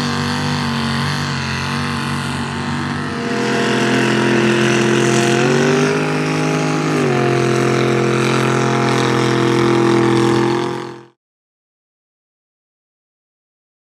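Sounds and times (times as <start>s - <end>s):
truck engine at high revs: 0.0s - 11.2s.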